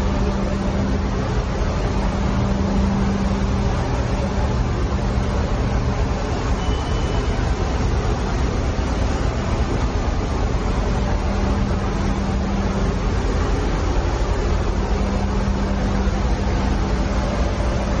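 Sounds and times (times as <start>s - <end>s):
engine room deep rumble: 0.0s - 18.0s
faint steady hum: 0.0s - 18.0s.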